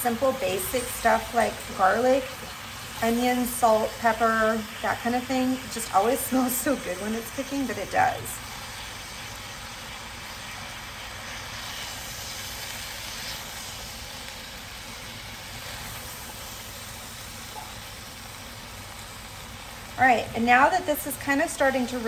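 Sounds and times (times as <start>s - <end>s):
cabbage sizzling in a pot: 0.0s - 22.0s.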